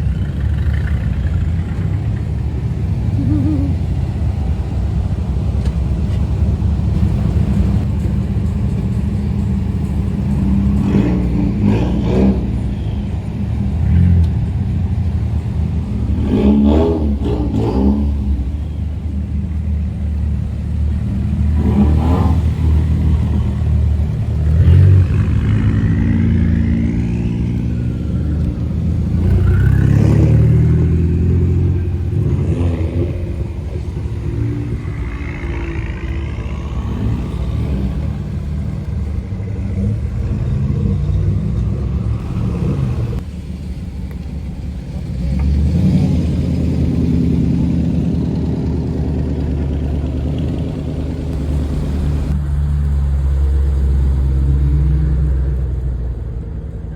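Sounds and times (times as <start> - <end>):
car engines revving: 0.0 - 56.9.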